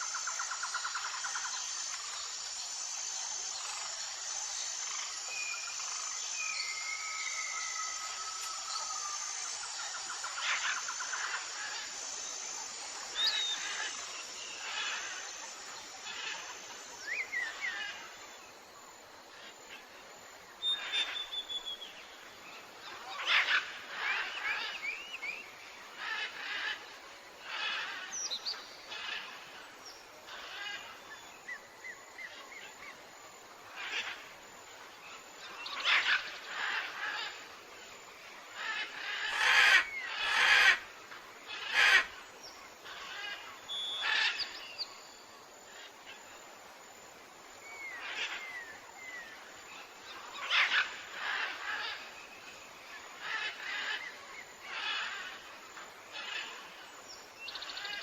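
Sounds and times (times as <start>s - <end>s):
faint steady hiss: 0.0s - 58.0s
forest birds chirping and trilling: 0.0s - 58.0s.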